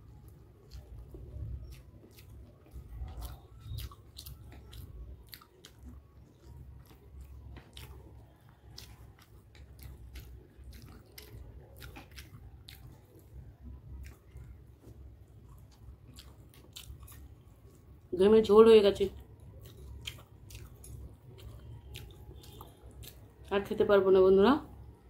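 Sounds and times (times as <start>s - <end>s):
person chewing noodles: 0.0s - 18.1s, 19.2s - 23.5s.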